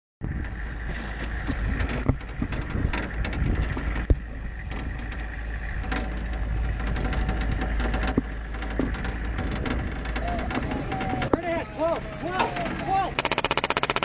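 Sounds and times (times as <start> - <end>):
vehicle rumble: 0.2 - 14.0
clicks and rattling knocks: 0.9 - 14.0.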